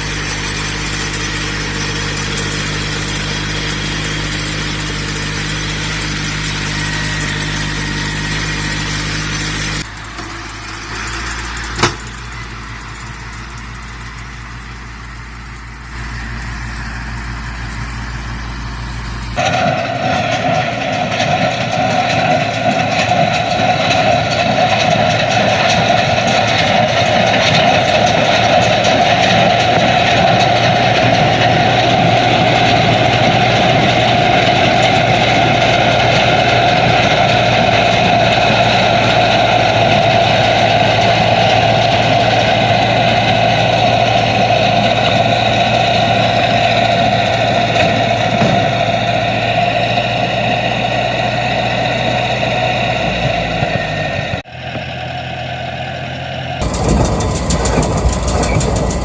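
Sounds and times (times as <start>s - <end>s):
hay baler engine drone: 0.0s - 59.0s.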